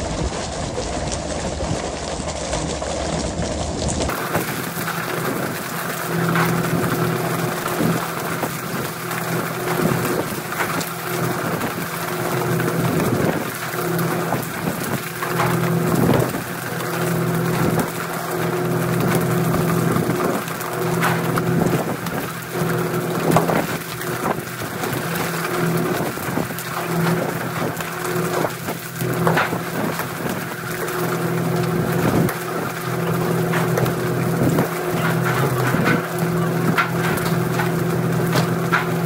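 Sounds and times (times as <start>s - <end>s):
boat engine hum: 0.0s - 39.0s
water rushing and hissing: 0.0s - 39.0s
fish slapping on deck: 0.2s - 39.0s.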